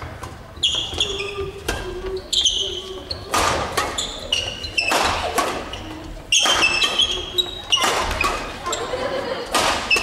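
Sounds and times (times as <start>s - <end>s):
rackets striking shuttlecock: 0.0s - 8.8s, 9.4s - 10.0s
shoes squeaking on wooden floor: 0.2s - 8.9s.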